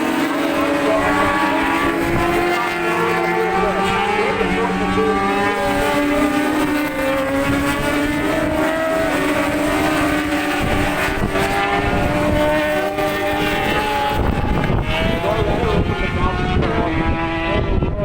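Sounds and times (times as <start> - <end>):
racing motorcycle engines: 0.0 - 18.0
wind buffeting microphone: 0.0 - 18.0.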